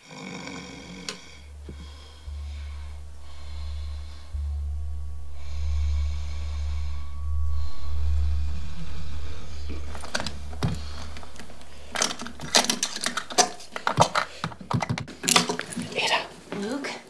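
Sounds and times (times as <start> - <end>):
low music drone: 0.8 - 15.7.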